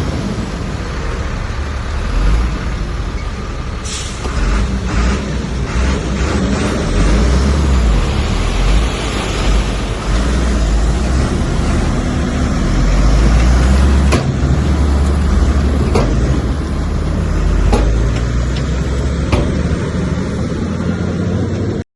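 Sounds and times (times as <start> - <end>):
diesel machinery rumbling: 0.0 - 21.8.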